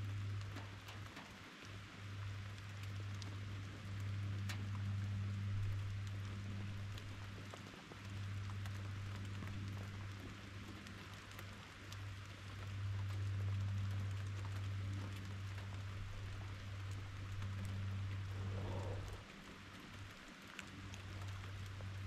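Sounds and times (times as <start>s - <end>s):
low hum: 0.0s - 22.0s
steady rain falling: 0.0s - 22.0s.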